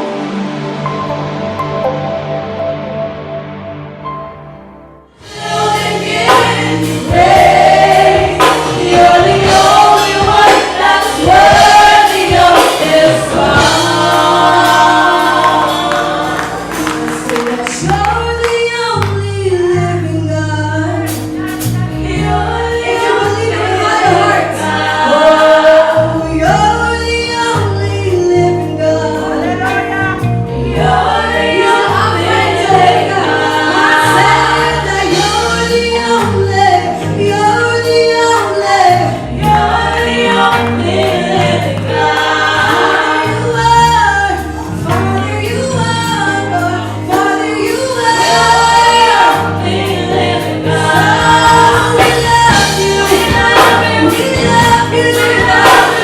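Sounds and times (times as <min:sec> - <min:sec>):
band playing: 0:00.0 - 0:56.0
bass line: 0:00.0 - 0:56.0
gospel choir singing: 0:05.1 - 0:56.0.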